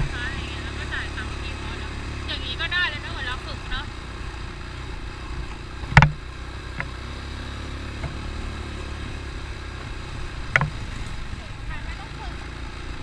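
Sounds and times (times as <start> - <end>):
atv engine rumbling: 0.0 - 13.0.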